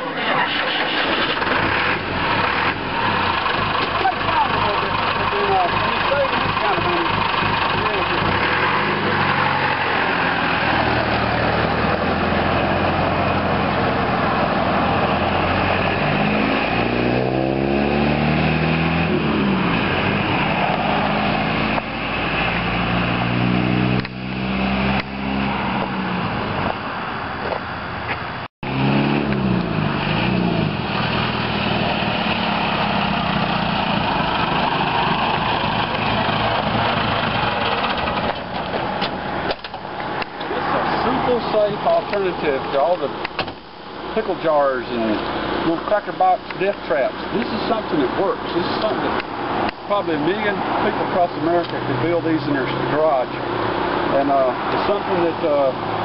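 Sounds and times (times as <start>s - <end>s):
pickup truck engine revving: 0.0s - 27.4s, 28.6s - 56.0s.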